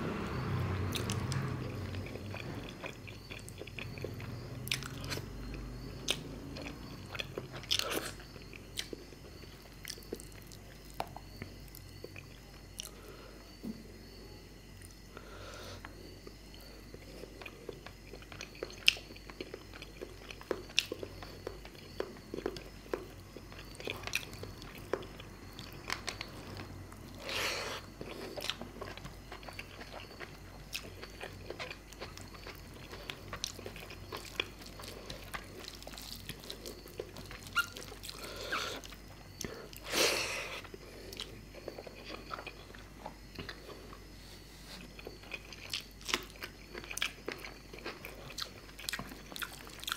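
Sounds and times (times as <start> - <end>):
person chewing food: 0.1 - 14.2, 14.8 - 49.9.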